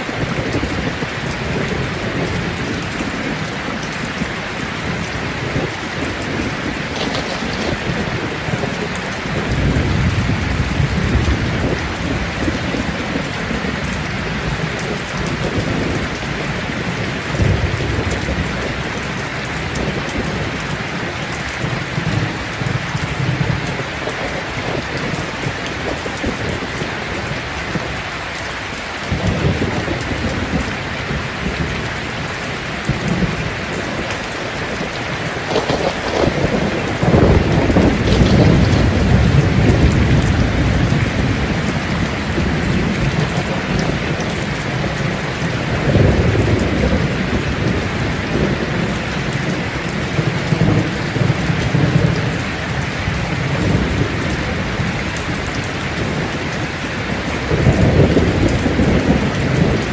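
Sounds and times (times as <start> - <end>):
heavy rain: 0.0 - 59.9
rolling thunder: 0.1 - 28.0, 29.0 - 59.9.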